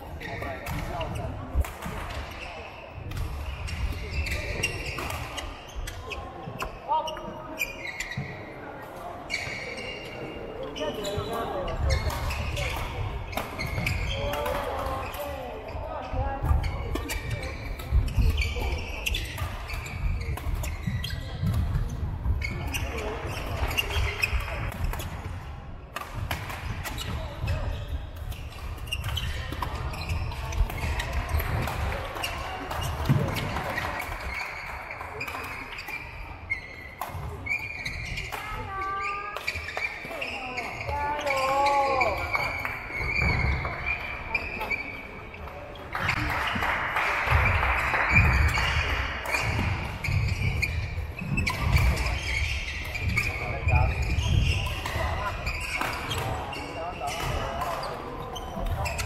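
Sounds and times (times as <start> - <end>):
echoing din of play: 0.0 - 59.0
shoe squeaks: 2.1 - 25.2, 26.6 - 46.5, 47.3 - 59.0.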